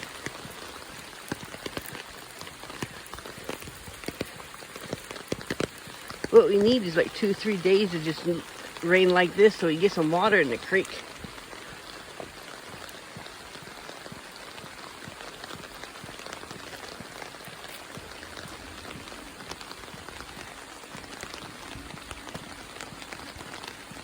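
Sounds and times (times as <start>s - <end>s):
rain pattering on an umbrella: 0.0s - 24.0s.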